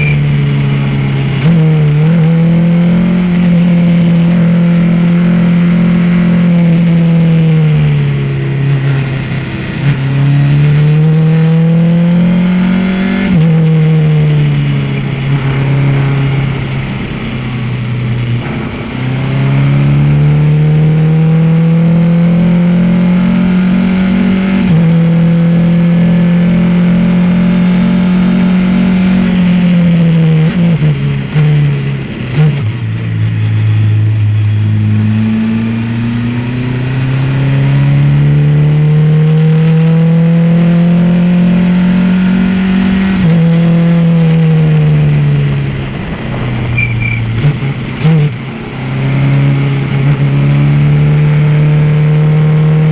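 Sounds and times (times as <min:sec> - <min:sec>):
race car engine accelerating: 0:00.0 - 0:52.9.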